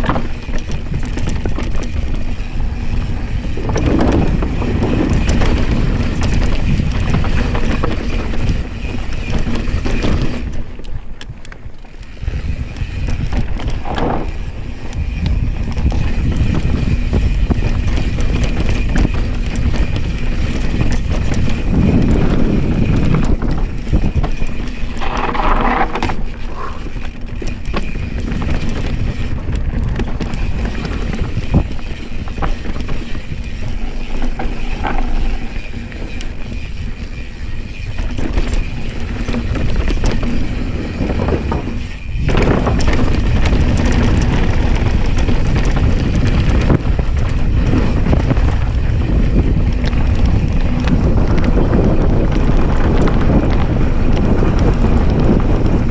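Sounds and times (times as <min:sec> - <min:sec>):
bike knocks and rattles: 0:00.0 - 0:55.9
tyres on dirt: 0:00.0 - 0:55.9
wind noise on microphone: 0:00.0 - 0:55.9.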